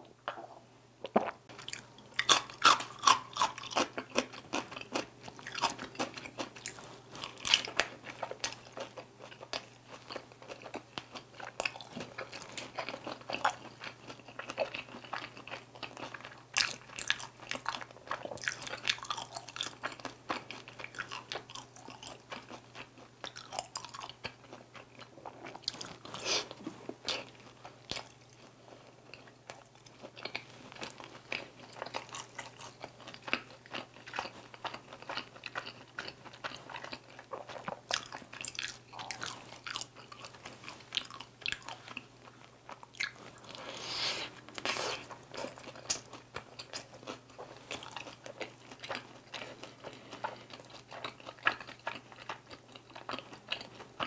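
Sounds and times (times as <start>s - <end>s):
crunchy chewing: 1.1s - 54.0s.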